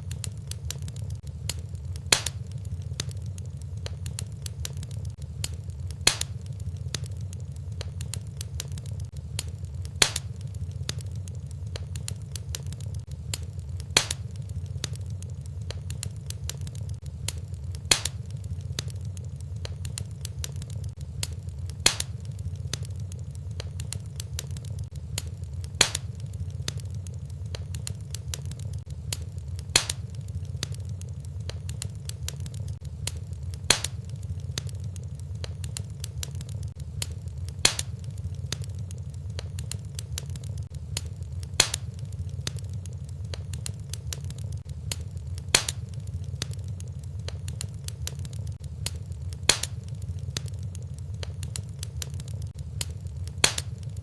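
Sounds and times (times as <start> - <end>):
low fire rumble: 0.0 - 54.0
wood fire crackling: 0.0 - 54.0
sharp fire pop: 0.1 - 11.1, 11.8 - 22.9, 23.6 - 26.9, 27.5 - 34.8, 35.4 - 42.6, 43.3 - 46.6, 47.3 - 50.6, 51.2 - 54.0.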